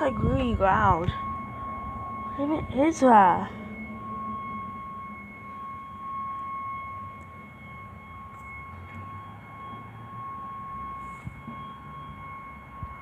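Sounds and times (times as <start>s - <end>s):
loud high-pitched ringing tone: 0.0s - 13.0s.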